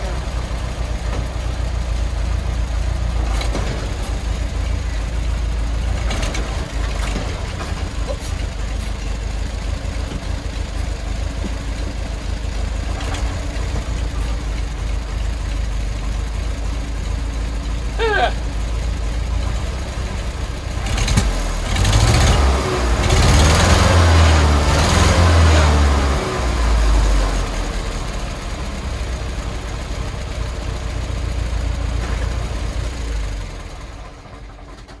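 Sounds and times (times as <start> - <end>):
truck engine revving and idling: 0.0 - 35.0.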